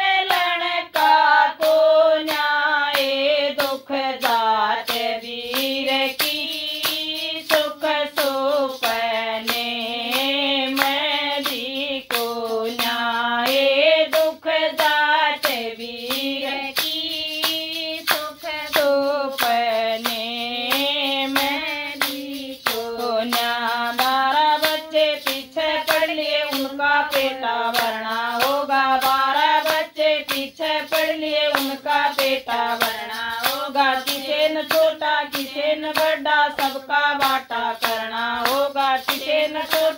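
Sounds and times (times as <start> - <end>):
handclaps: 0.0 - 39.9
woman singing folk song: 0.0 - 39.9.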